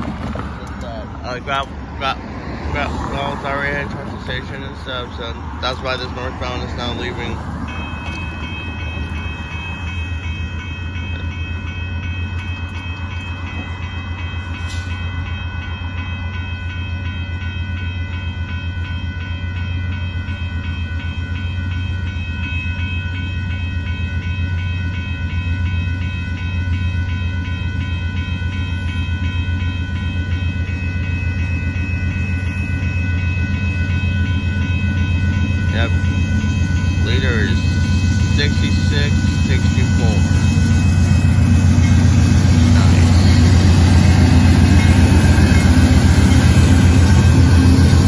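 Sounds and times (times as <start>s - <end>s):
railroad crossing bell ringing: 0.0s - 48.0s.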